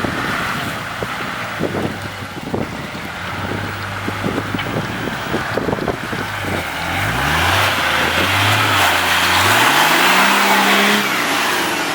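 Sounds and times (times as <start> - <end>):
engine accelerating: 0.0 - 11.9
steady rushing noise: 0.0 - 11.9.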